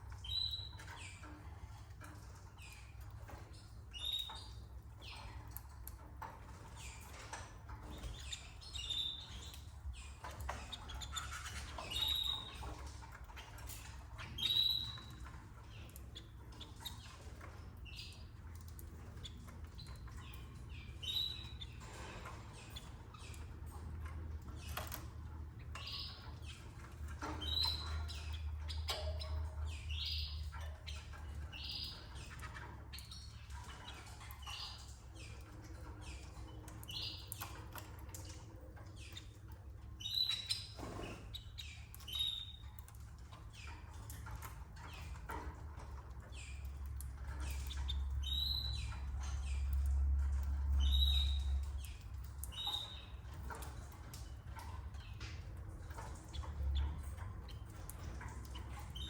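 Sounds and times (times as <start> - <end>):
canaries chirping: 0.0 - 59.0
small clicks and rustles: 0.0 - 59.0.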